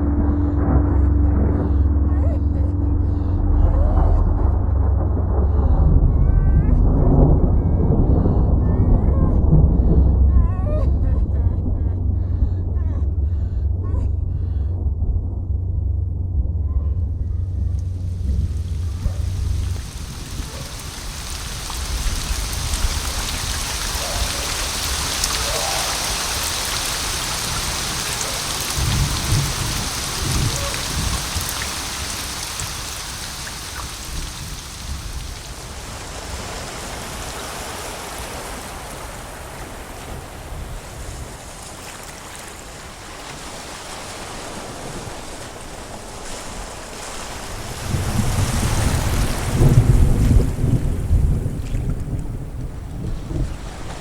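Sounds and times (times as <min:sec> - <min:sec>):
thunder rolling: 0:00.0 - 0:41.7, 0:44.0 - 0:54.0
steady rain: 0:00.0 - 0:54.0.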